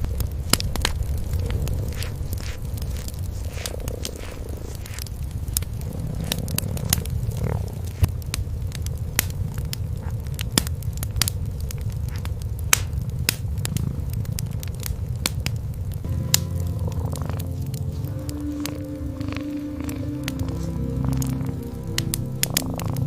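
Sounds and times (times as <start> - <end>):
cats purring: 0.0 - 23.0
wood fire crackling and popping: 0.0 - 23.0.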